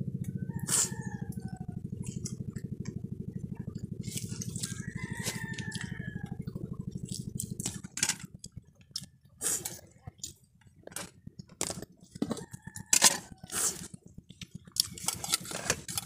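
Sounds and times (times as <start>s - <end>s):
low fast-pulsing drone: 0.0s - 16.0s.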